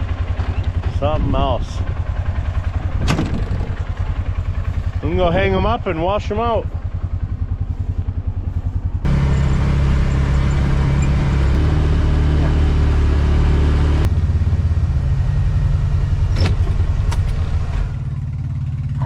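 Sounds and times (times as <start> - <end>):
engine running: 0.0 - 19.0
vehicle engine idling: 0.0 - 19.0.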